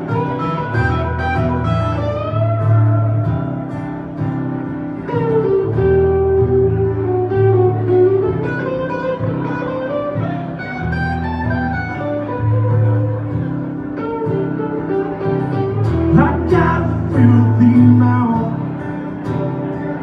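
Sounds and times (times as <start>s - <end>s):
bending lead melody: 0.0s - 20.0s
live band playing: 0.0s - 20.0s.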